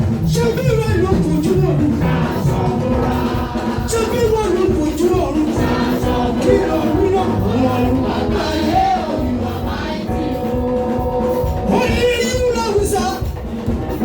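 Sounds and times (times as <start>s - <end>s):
gospel group singing with band: 0.0s - 14.0s.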